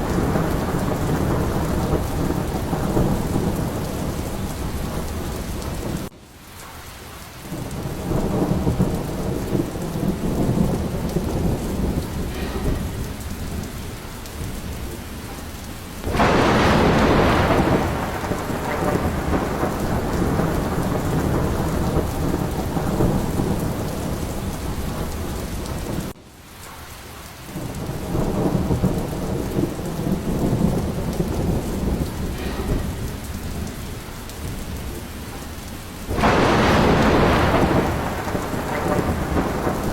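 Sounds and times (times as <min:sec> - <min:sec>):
loud thunderclap: 0:00.0 - 0:06.1, 0:07.5 - 0:26.2, 0:27.5 - 0:39.9
rolling thunder: 0:00.0 - 0:06.1, 0:07.3 - 0:26.2, 0:27.4 - 0:39.9
steady rain: 0:00.0 - 0:39.9.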